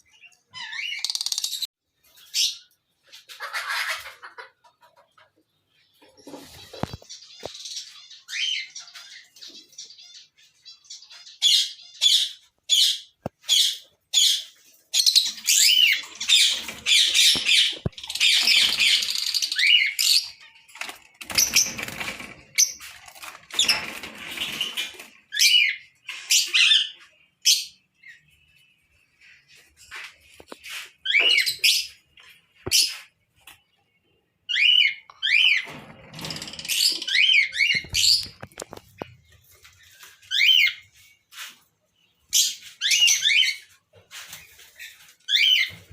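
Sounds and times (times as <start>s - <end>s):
lovebirds chirping and squawking: 0.0s - 45.9s.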